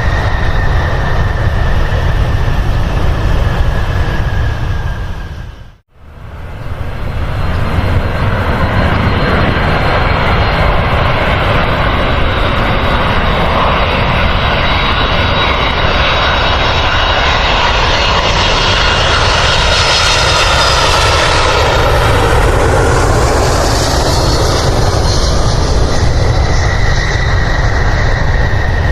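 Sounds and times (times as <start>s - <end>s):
airliner engines roaring: 0.0s - 28.9s.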